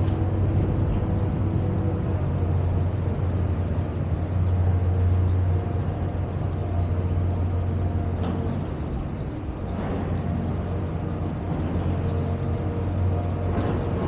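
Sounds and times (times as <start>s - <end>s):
car engine and road noise: 0.0s - 14.0s
faint engine tones: 0.0s - 14.0s.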